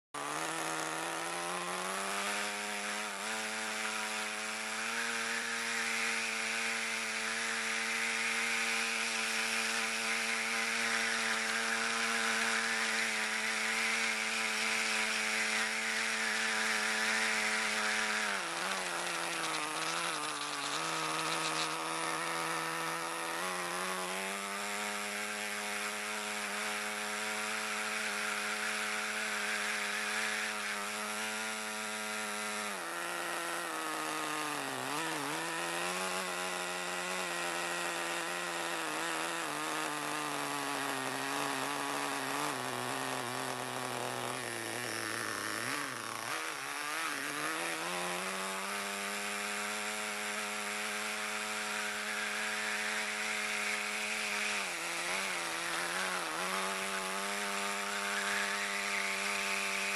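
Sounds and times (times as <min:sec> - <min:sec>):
small engine buzzing: 0:00.0 - 0:59.9.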